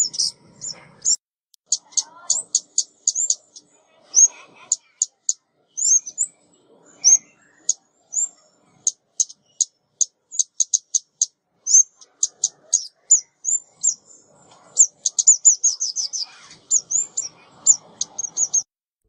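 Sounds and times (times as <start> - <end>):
small songbird chipping: 0.0 - 18.7.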